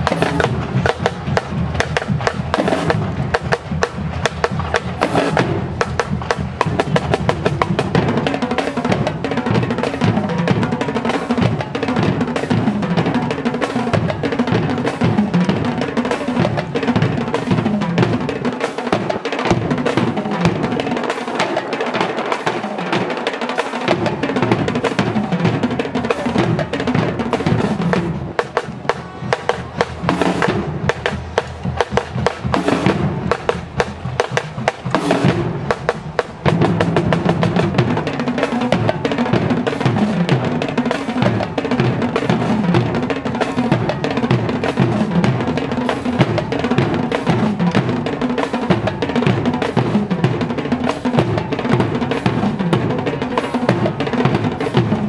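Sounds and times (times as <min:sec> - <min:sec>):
bass drums: 0:00.0 - 0:20.9, 0:23.9 - 0:55.0
snare drums: 0:00.0 - 0:55.0
tenor drums: 0:00.0 - 0:55.0.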